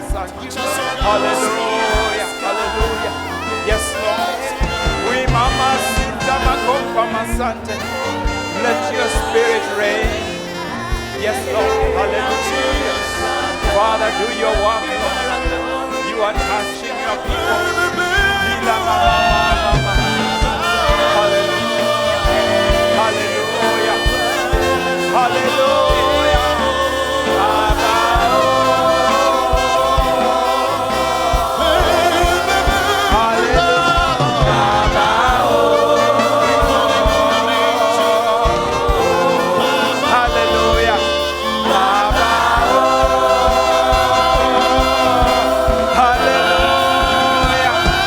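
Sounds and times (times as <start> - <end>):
gospel singing voices: 0.0 - 48.0.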